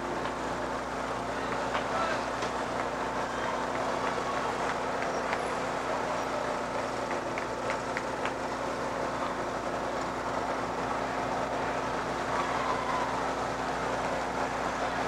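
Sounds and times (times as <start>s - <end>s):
roadside crowd noise: 0.0s - 15.0s
vehicle road noise: 0.0s - 15.0s.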